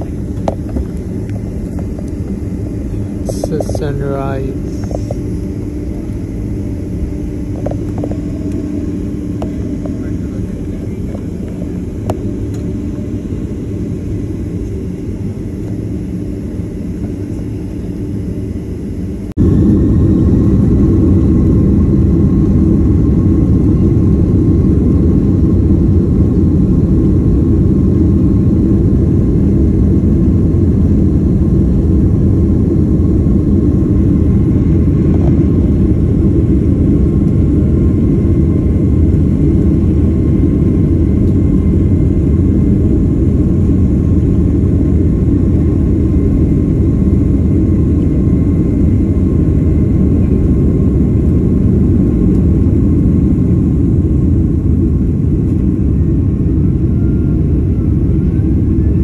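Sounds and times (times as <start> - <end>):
faint steady hum: 0.0 - 59.0
jet airliner cabin rumble: 0.0 - 59.0.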